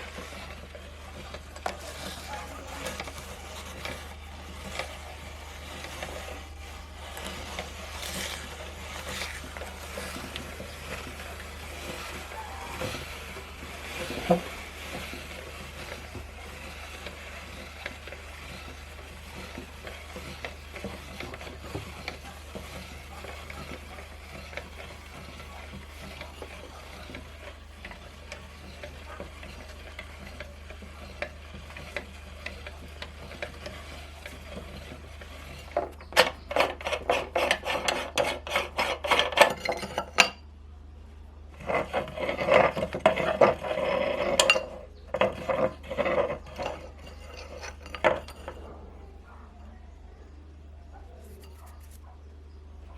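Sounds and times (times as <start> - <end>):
meat grinder crushing cookies: 0.0 - 40.3, 41.6 - 48.6.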